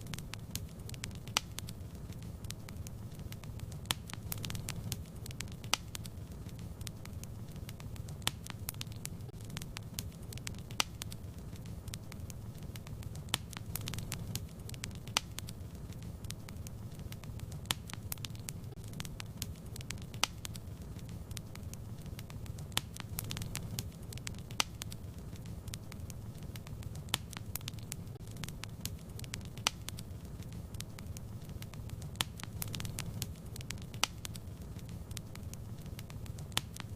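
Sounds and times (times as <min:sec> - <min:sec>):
fire crackling and popping: 0:00.0 - 0:36.9
fire flames rumbling: 0:00.0 - 0:36.9.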